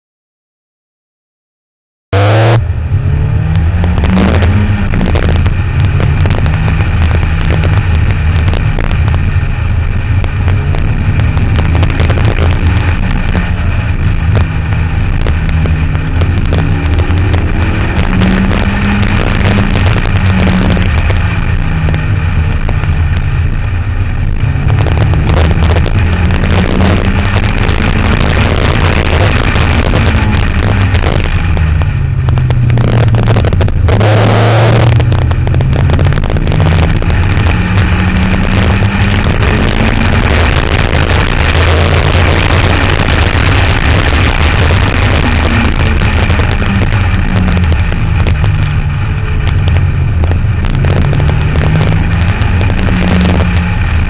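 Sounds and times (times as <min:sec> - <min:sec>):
sports car engine revving: 0:02.1 - 0:54.0
wind and road noise: 0:02.1 - 0:54.0.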